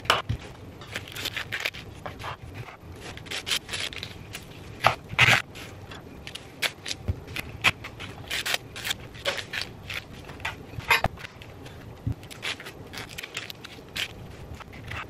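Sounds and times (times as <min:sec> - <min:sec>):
corn husks crackling and rustling: 0:00.0 - 0:15.0.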